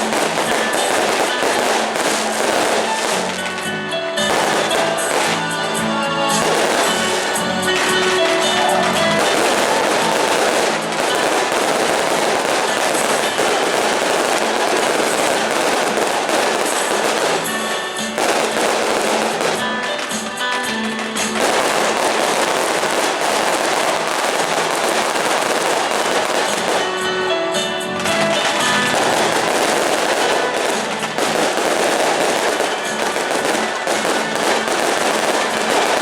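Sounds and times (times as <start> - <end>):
fireworks crackling and popping: 0.0 - 36.0
music playing: 0.0 - 36.0.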